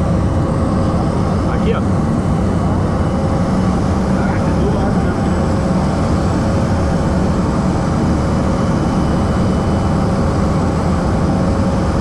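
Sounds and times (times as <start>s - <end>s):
small plane engine drone: 0.0s - 12.0s.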